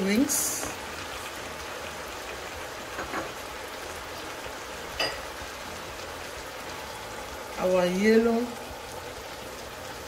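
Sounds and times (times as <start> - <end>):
food sizzling in a pot: 0.0 - 10.0.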